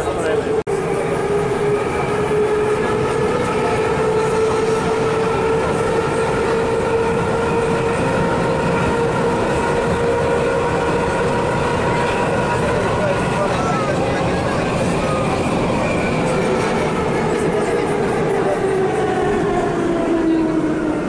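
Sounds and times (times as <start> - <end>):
train wheels rumbling on rails: 0.0 - 21.0
train whine: 0.0 - 21.0.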